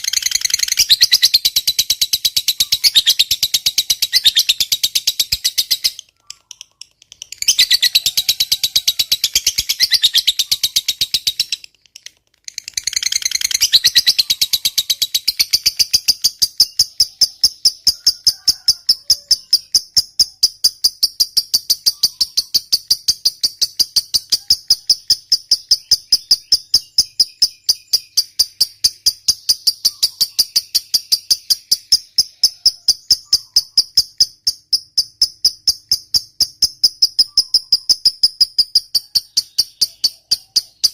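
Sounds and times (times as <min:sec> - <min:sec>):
lovebird chattering: 0:00.0 - 0:40.9
lovebird trilling: 0:00.0 - 0:40.9.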